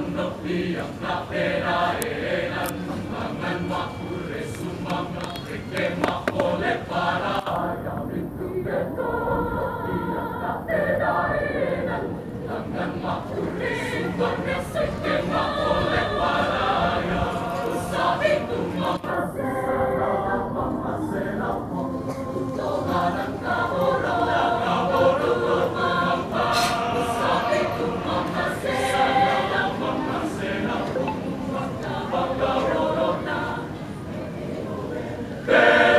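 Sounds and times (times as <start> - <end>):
mixed choir singing: 0.0 - 35.9.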